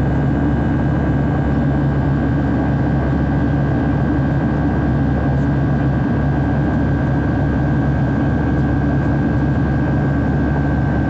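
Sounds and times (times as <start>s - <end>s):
jet engine and airflow rumble: 0.0s - 11.0s.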